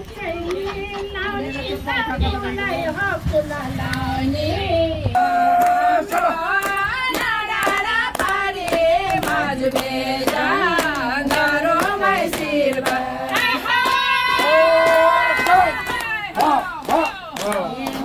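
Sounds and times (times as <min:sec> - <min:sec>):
group clapping rhythmically: 0:00.0 - 0:03.0, 0:03.8 - 0:04.2, 0:05.1 - 0:18.0
woman singing into microphone: 0:00.0 - 0:14.6.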